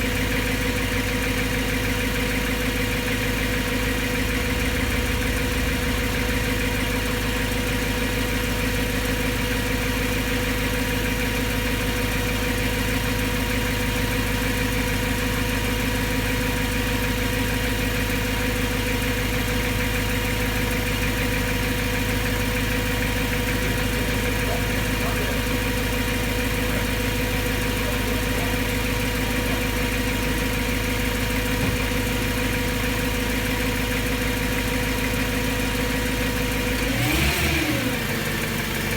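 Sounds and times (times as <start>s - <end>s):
car engine idling: 0.0s - 38.9s
engine ticking: 0.0s - 38.9s.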